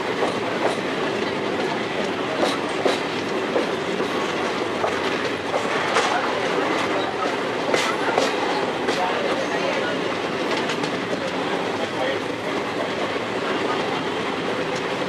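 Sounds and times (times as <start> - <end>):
train rumbling: 0.0 - 15.0
wheels clacking over rail joints: 0.1 - 15.0.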